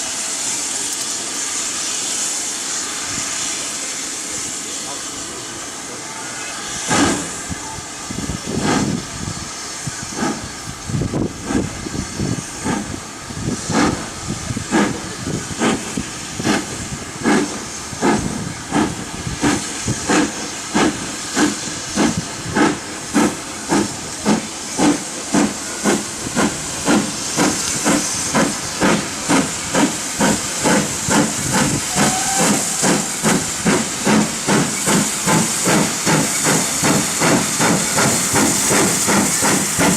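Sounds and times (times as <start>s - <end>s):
steam hissing: 0.0s - 39.9s
steam locomotive exhaust chuffing: 0.0s - 39.9s.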